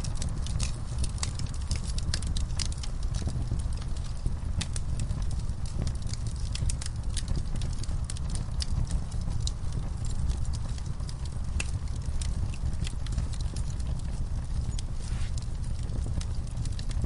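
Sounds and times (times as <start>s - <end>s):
low rumble of burning logs: 0.0s - 17.0s
wood fire crackling: 0.0s - 17.0s.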